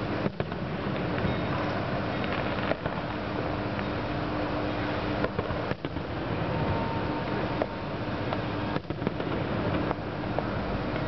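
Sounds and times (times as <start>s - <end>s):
steady background rumble: 0.0s - 11.0s.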